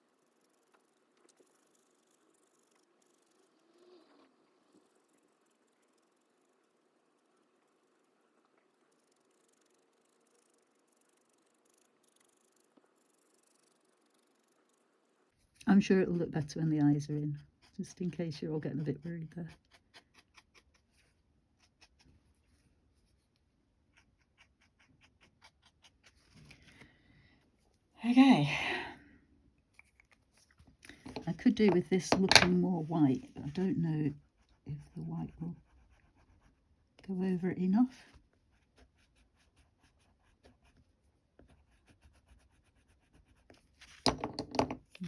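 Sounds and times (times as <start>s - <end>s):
scratchy strokes on paper: 0.0s - 26.8s, 32.5s - 44.0s.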